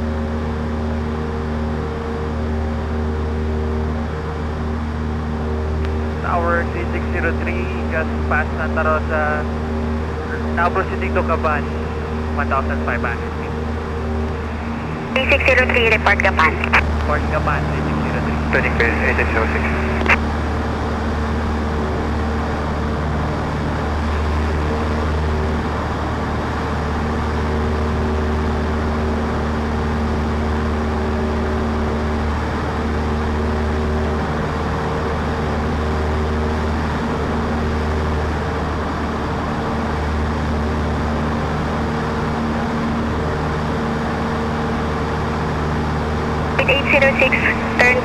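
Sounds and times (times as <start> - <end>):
propeller plane engine from cabin: 0.0 - 48.0.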